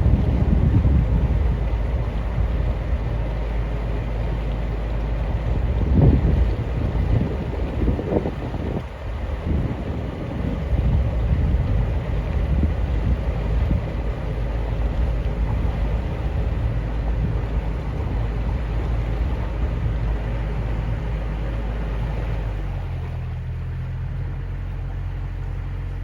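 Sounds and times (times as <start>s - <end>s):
boat diesel engine humming: 0.0s - 26.0s
wind buffeting microphone: 0.0s - 26.0s.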